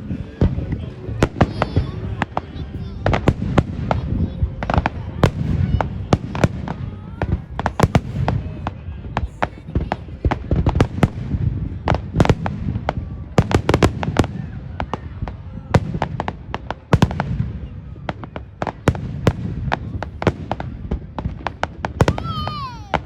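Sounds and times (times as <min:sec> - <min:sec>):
fireworks cracking and popping: 0:00.0 - 0:17.5, 0:18.1 - 0:23.0
rumble of fireworks booms: 0:00.0 - 0:23.0.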